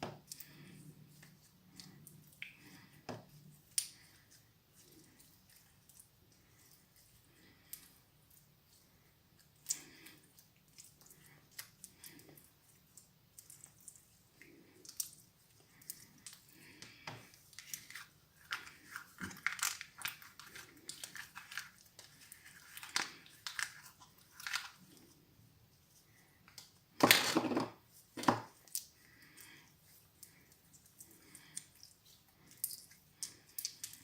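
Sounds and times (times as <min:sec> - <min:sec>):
slime squelching: 0:00.0 - 0:26.9, 0:27.8 - 0:34.0.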